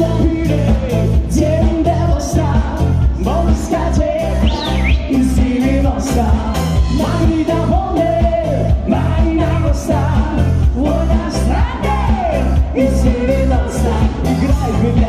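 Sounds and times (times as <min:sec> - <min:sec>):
pop dance song with singing: 0:00.0 - 0:15.0.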